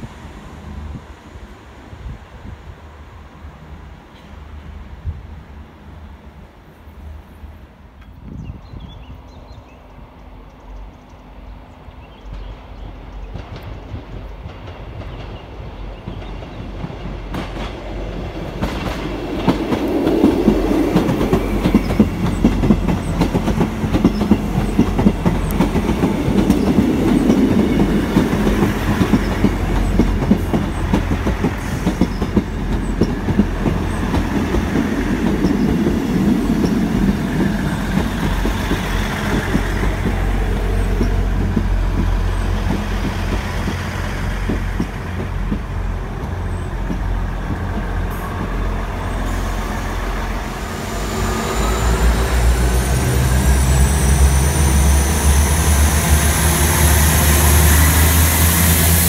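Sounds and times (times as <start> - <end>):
diesel train engine rumble: 0.0 - 59.0.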